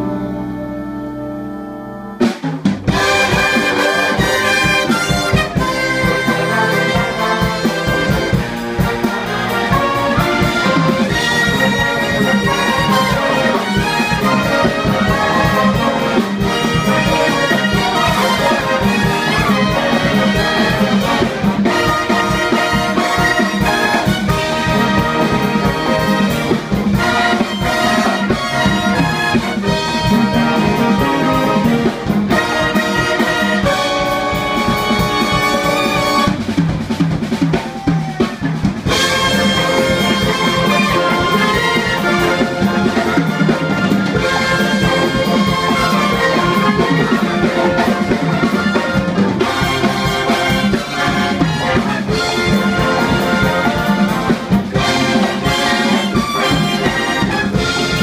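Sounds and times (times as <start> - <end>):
jazz big band playing: 0.0 - 58.0.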